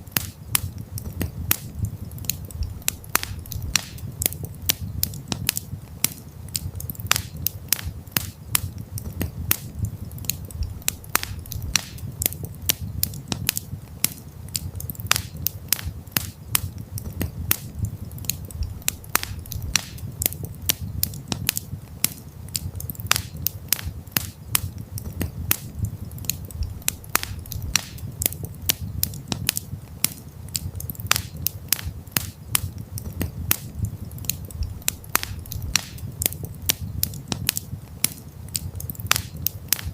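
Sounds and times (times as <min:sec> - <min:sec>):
campfire pops and snaps: 0:00.0 - 0:39.9
low rumble of flames: 0:00.0 - 0:39.9.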